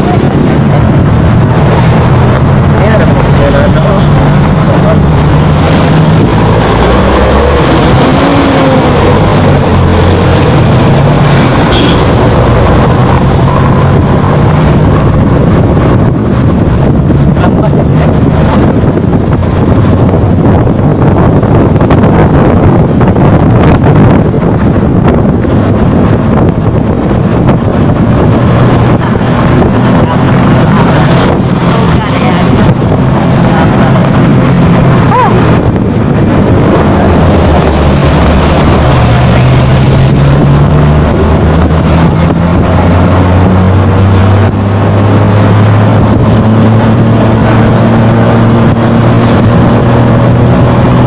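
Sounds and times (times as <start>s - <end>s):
motorcycle engine hum: 0.0s - 51.0s
wind rushing over microphone: 0.0s - 51.0s.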